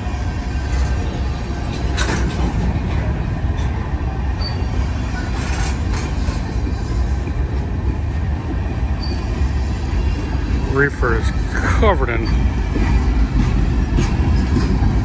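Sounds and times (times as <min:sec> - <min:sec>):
train clanks: 0:00.0 - 0:15.0
train wheels rumbling on rail: 0:00.0 - 0:15.0.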